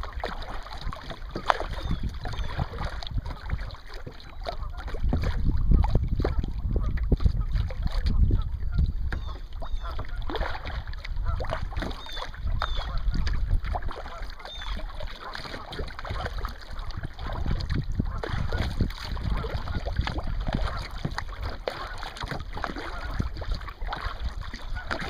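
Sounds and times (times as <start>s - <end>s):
paddle splashing water: 0.0s - 25.0s
wind buffeting microphone: 0.0s - 25.0s.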